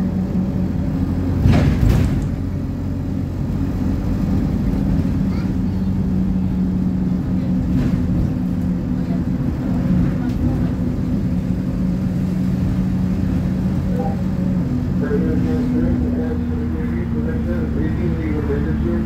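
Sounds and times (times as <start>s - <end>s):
bus engine hum: 0.0s - 19.0s
road noise: 0.0s - 19.0s.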